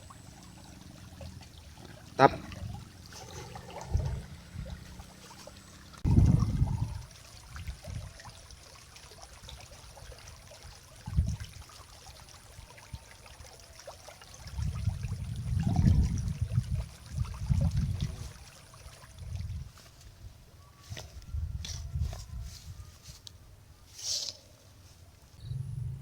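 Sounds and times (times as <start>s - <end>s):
water trickling in stream: 0.0s - 23.4s.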